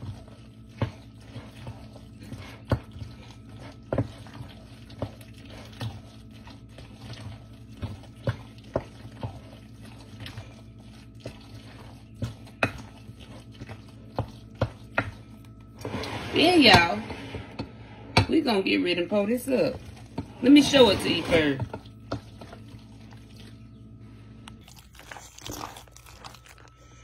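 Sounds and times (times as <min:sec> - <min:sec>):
low steady hum: 0:00.0 - 0:27.0
spoon stirring wet mixture: 0:00.0 - 0:27.0.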